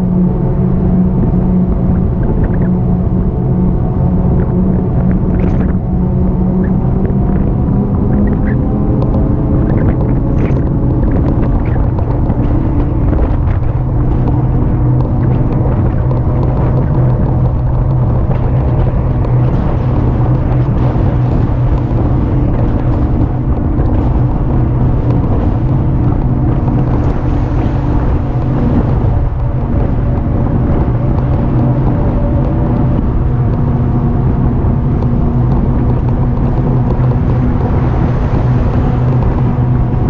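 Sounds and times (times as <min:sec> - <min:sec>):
constant low hum: 0:00.0 - 0:40.0
wind rumble on microphone: 0:00.0 - 0:40.0.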